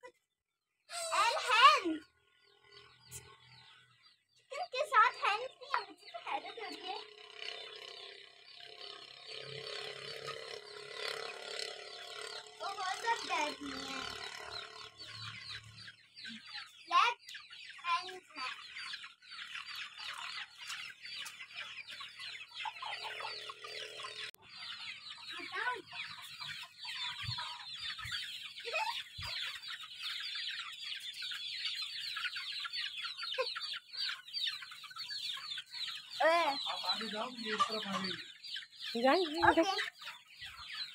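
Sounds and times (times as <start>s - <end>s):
chickens chirping: 0.0s - 40.9s
chicken clucking: 0.9s - 40.9s.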